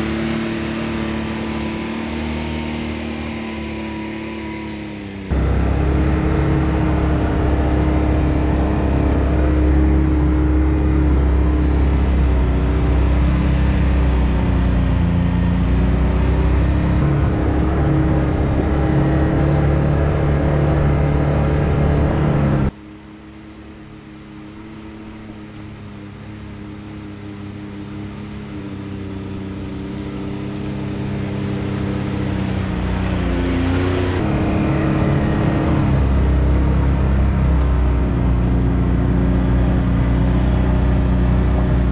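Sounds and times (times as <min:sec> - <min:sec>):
turbocharged engine running: 0:00.0 - 0:41.9.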